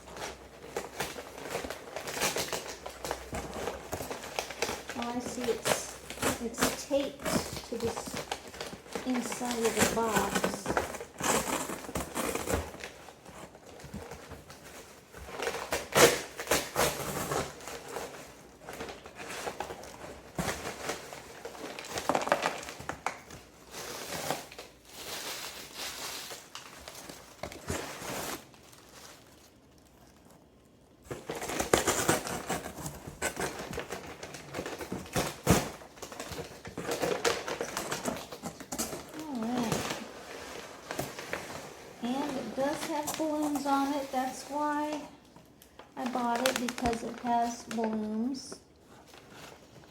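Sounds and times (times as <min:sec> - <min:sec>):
packaging rustling and crinkling: 0:00.0 - 0:49.9.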